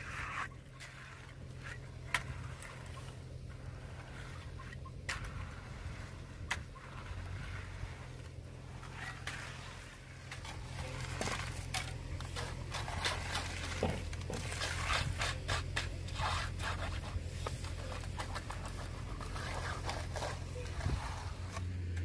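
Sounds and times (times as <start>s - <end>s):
hand tools scraping wet concrete: 0.0s - 22.0s
low engine hum: 0.0s - 22.0s.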